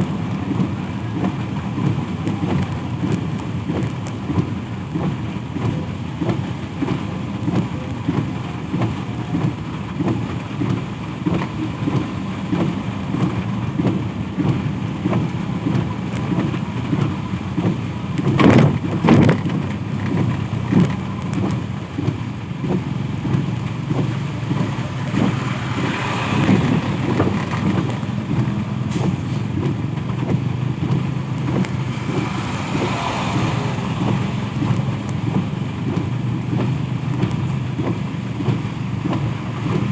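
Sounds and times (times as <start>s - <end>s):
rain: 0.0s - 39.9s
traffic on wet road: 0.0s - 39.9s
vehicles passing with hiss: 0.0s - 39.9s.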